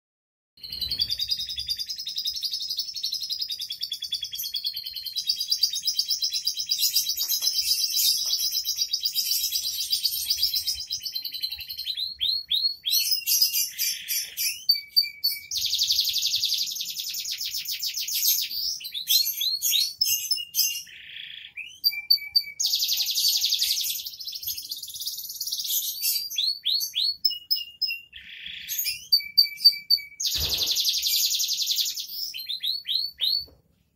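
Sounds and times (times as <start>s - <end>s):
canary singing: 0.6s - 33.6s.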